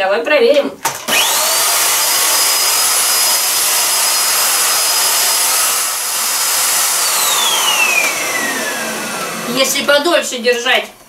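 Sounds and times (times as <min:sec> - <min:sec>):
stick vacuum cleaner whining: 0:00.8 - 0:10.3.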